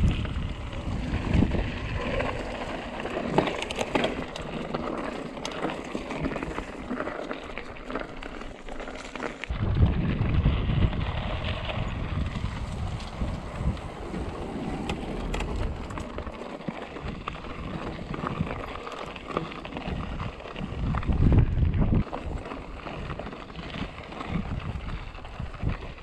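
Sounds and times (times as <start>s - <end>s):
wind buffeting microphone: 0.0s - 4.5s, 9.5s - 26.0s
bike clicks and rattles: 0.0s - 26.0s
bike tyre noise on dirt: 0.0s - 26.0s.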